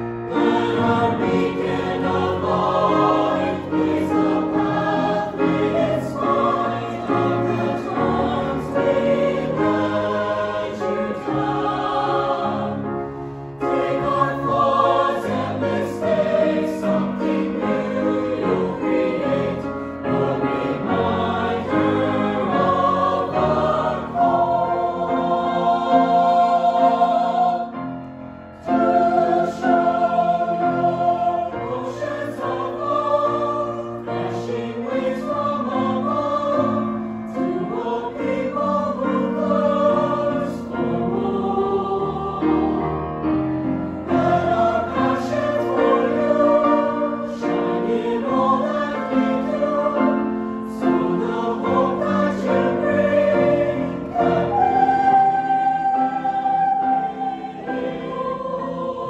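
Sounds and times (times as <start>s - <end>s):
choir singing sacred song: 0.0s - 59.0s.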